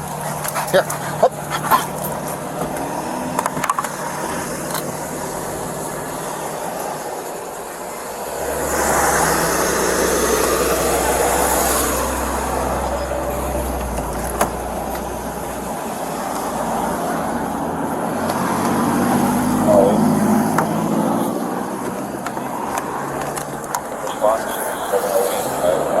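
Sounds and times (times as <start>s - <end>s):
steady roadside noise: 0.0s - 26.0s
vehicle passing by: 0.0s - 26.0s.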